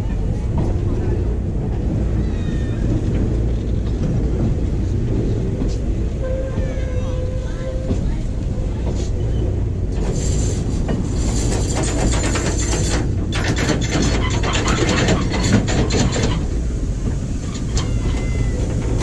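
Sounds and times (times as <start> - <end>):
clicking and rattling of coaches: 0.0 - 19.0
train wheels rumbling on rail: 0.0 - 19.0.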